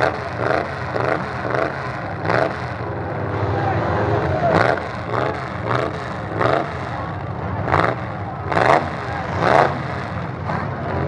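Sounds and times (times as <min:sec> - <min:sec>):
truck engines revving: 0:00.0 - 0:11.0.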